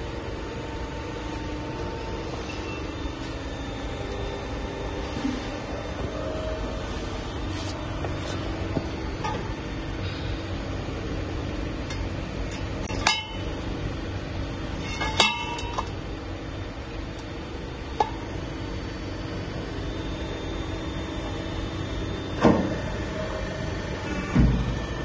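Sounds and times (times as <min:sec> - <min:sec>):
factory machine hum: 0:00.0 - 0:25.0.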